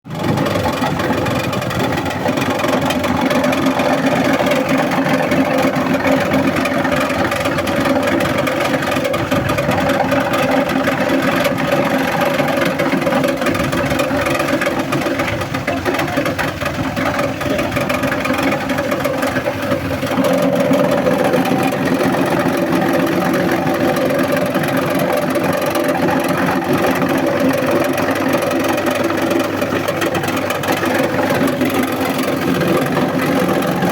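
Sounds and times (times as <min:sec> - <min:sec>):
shredder machine humming: 0:00.0 - 0:33.9.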